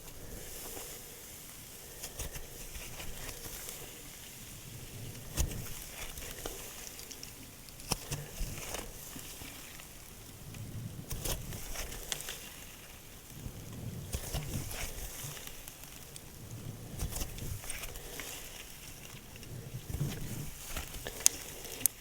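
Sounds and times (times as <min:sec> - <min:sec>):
slime squelching: 0:01.8 - 0:22.0.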